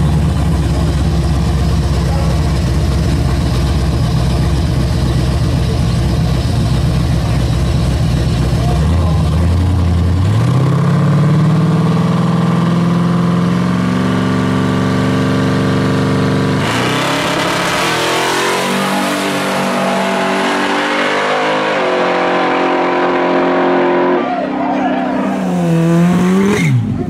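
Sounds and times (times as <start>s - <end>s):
car engine revving: 0.0s - 27.0s
car accelerating away: 0.8s - 27.0s.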